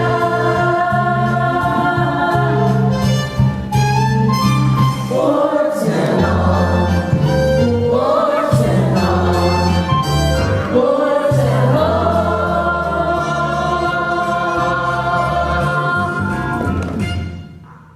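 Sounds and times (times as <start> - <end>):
young voices singing: 0.0 - 3.0, 5.0 - 17.0
instrumental accompaniment: 0.0 - 17.9.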